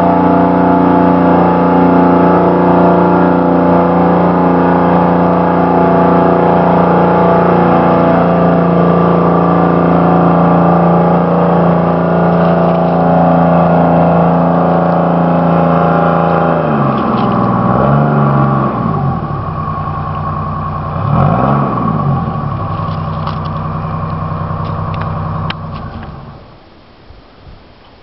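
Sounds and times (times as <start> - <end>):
skidder engine revving: 0.0 - 26.6.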